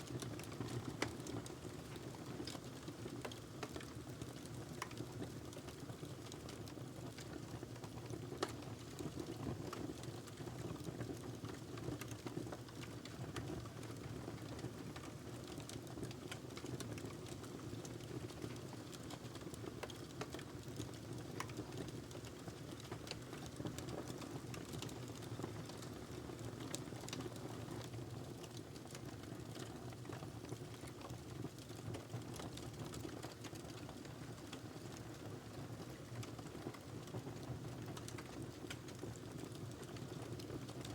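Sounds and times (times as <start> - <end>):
log fire crackling: 0.1 - 40.9.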